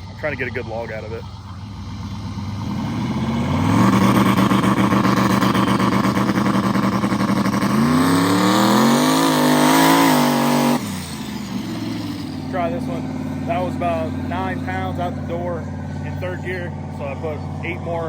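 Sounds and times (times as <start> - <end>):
truck engine revving with choppy pulsing: 0.0 - 18.0.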